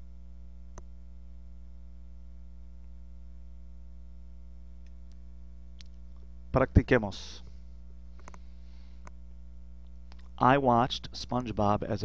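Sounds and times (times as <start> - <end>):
low electrical mains hum: 0.0 - 12.0.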